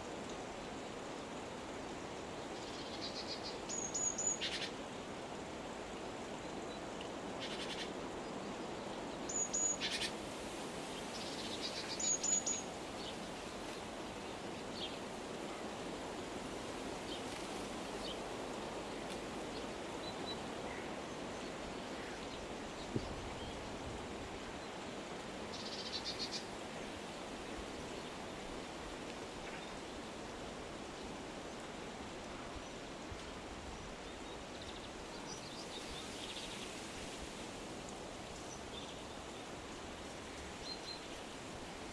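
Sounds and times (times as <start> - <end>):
steady background hiss: 0.0 - 41.9.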